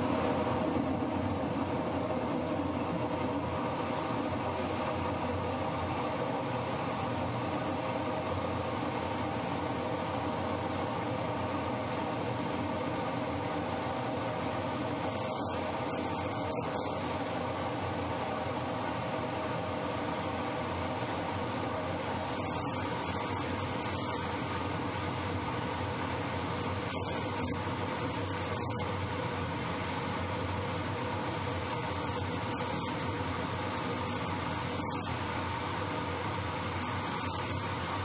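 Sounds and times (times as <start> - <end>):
jet engine whine: 0.0 - 38.0.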